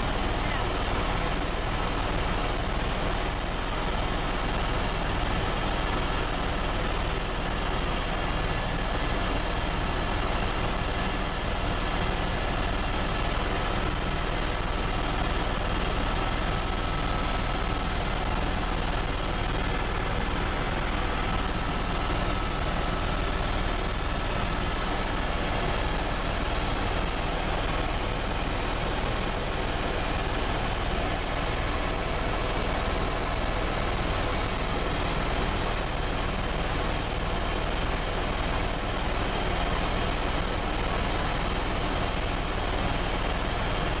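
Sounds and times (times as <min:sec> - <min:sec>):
faint steady whine: 0:00.0 - 0:44.0
helicopter engine and rotor: 0:00.0 - 0:44.0.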